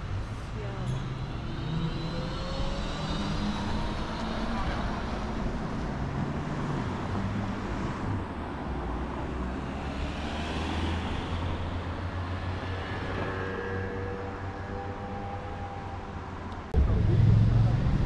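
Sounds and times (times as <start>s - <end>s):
traffic rumble of engines and tyres: 0.0s - 18.0s.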